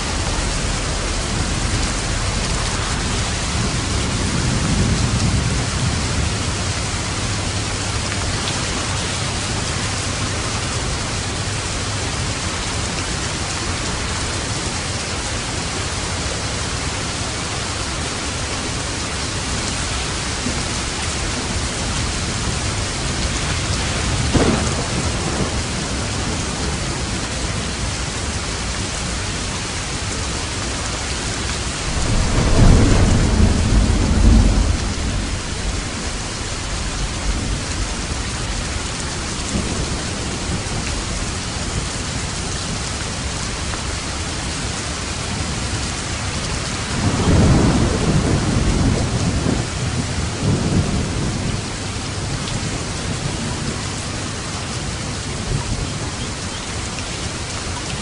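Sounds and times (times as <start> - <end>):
thunder crack and rumble: 0.0 - 15.8, 16.7 - 30.2, 31.0 - 54.1
steady rain falling: 0.0 - 58.0.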